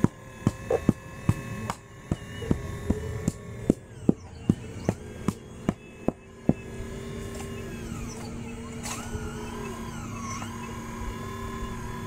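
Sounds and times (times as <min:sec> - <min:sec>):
model excavator motor whining: 0:00.0 - 0:12.0.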